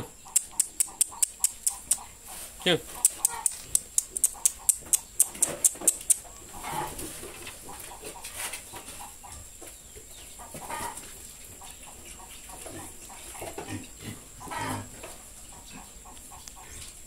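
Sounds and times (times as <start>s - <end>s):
farm animals calling: 0.0s - 17.0s.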